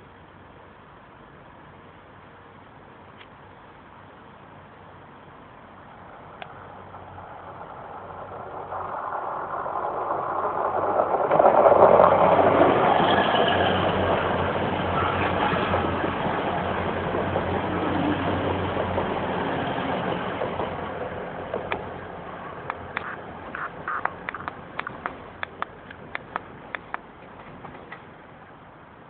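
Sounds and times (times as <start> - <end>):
diesel train passing: 0.0 - 29.0.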